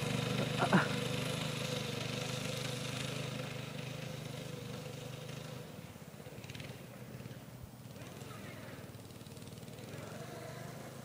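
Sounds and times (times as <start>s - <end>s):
go-kart engine running: 0.0s - 11.0s.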